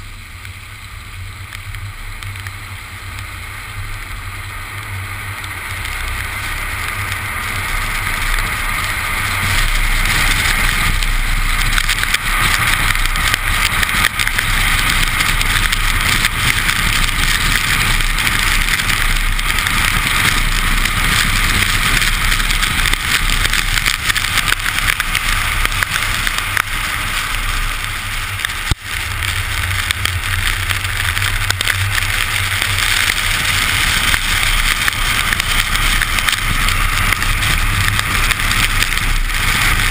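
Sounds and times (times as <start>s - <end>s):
low engine drone: 0.0s - 39.9s
tyres hissing on wet asphalt: 0.0s - 39.9s
wind: 0.0s - 39.9s.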